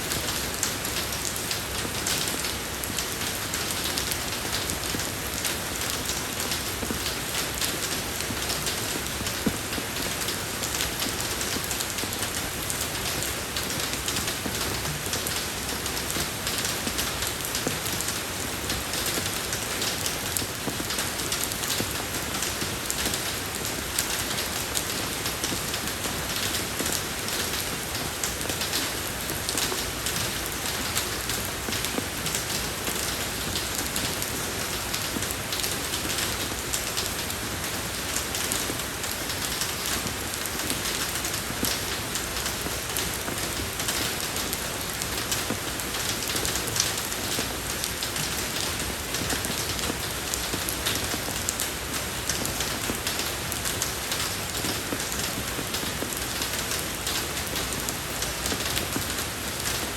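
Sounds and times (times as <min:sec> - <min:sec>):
rain falling on a road: 0:00.0 - 0:59.9.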